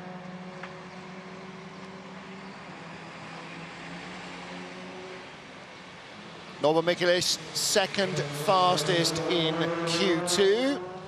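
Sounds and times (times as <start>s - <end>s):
racing car engine: 0.0s - 11.0s.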